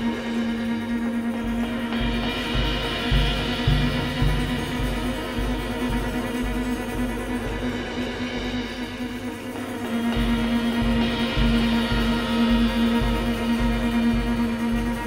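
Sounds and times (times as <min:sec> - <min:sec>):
deep low pulsing notes: 0:00.0 - 0:15.0
piano bass and drums droning: 0:00.0 - 0:15.0.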